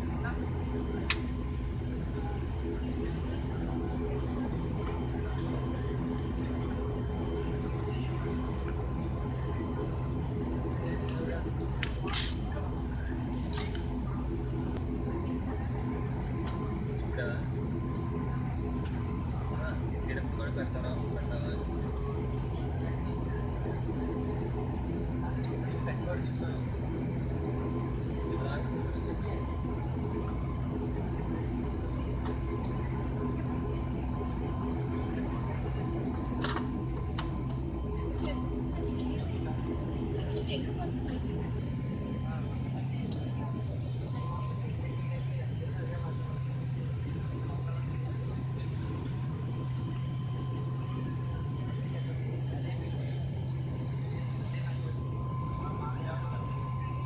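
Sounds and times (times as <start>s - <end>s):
airliner engine drone: 0.0s - 57.0s
faint steady whine: 0.0s - 57.0s.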